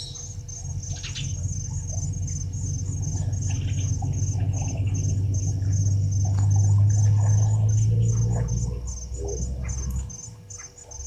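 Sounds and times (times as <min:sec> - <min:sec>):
insect pulsing trill: 0:00.0 - 0:11.0
steady low hum: 0:00.0 - 0:11.0.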